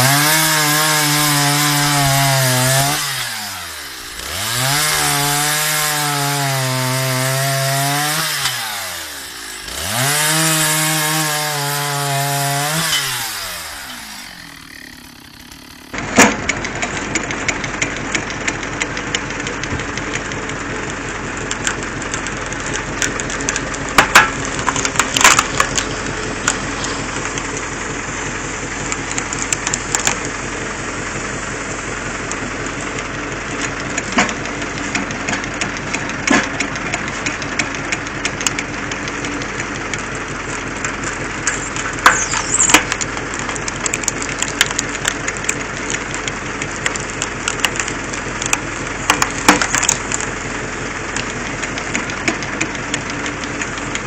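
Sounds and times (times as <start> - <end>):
engine running steadily: 0.0 - 54.0
log cracking and splitting: 0.0 - 54.0.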